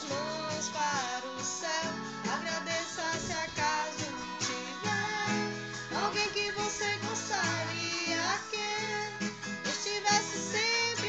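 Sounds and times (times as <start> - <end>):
acoustic guitar: 0.0 - 11.0
person singing: 0.0 - 11.0.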